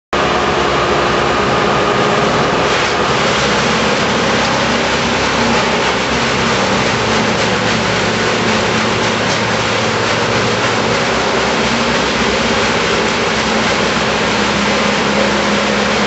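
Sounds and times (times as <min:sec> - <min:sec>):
heavy machinery engine running: 0:00.2 - 0:16.0.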